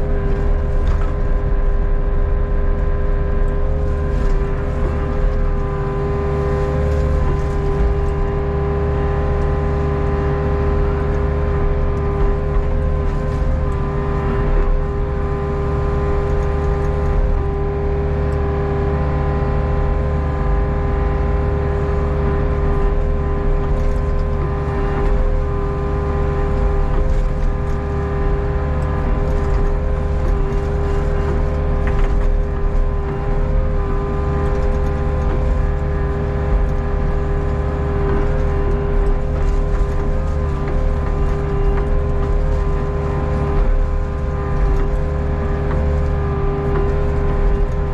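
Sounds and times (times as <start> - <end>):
excavator diesel engine running: 0.0 - 47.9
hum of held tones: 0.0 - 47.9.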